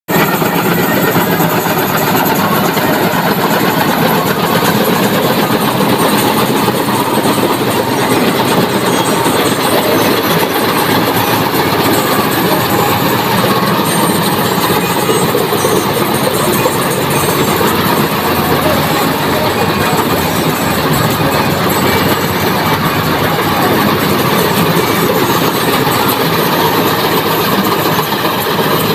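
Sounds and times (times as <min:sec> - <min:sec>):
combine harvester clattering: 0:00.1 - 0:28.9.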